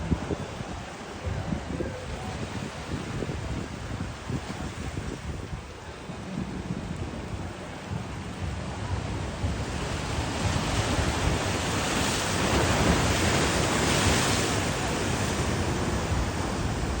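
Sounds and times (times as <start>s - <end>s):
ocean surf breaking on beach: 0.0s - 17.0s
wind rumbling on microphone: 0.0s - 17.0s.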